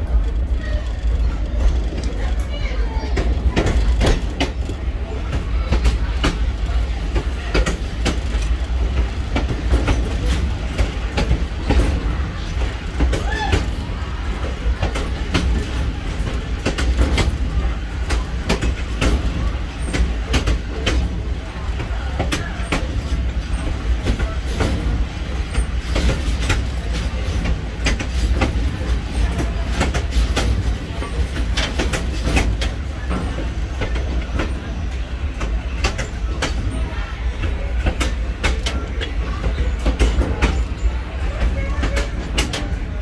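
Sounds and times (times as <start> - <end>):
railroad car wheels rumbling: 0.0 - 43.0
wheels clicking over rail joints: 0.0 - 43.0.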